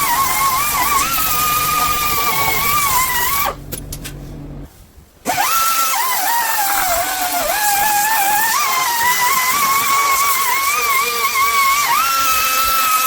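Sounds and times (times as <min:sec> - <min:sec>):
angle grinder grinding metal: 0:00.0 - 0:04.6, 0:05.3 - 0:13.0.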